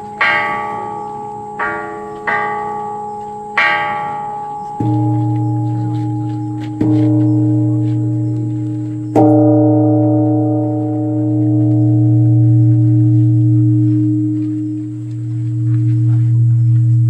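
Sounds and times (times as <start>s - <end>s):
large temple bell ringing: 0.0s - 17.0s.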